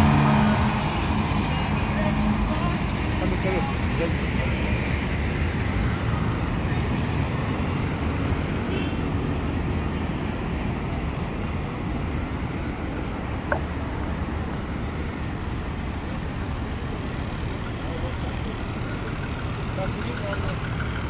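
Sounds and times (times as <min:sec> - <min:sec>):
traffic rumbling past: 0:00.0 - 0:21.0.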